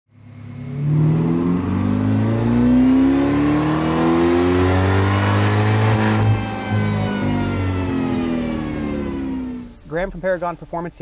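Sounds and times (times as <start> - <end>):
car engine accelerating: 0.1 - 10.2.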